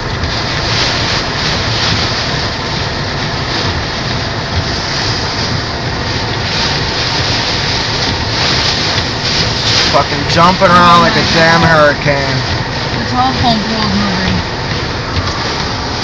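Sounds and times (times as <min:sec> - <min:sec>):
heavy rain: 0:00.0 - 0:16.0
strong wind: 0:00.0 - 0:16.0.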